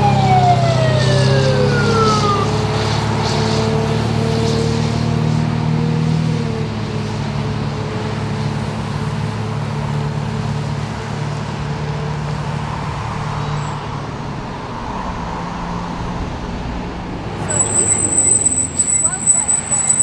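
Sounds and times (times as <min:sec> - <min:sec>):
fire engine driving off: 0:00.0 - 0:20.0.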